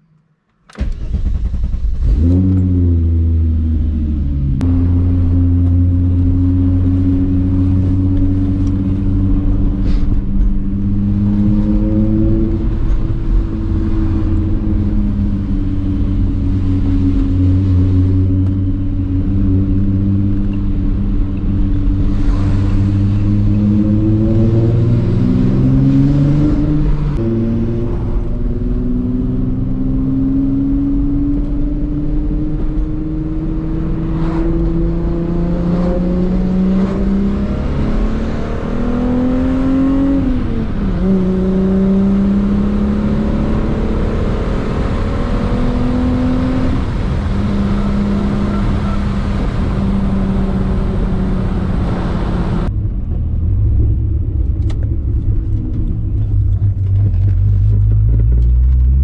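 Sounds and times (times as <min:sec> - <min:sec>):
car engine accelerating: 0:00.0 - 0:59.0
low road rumble: 0:00.0 - 0:59.0.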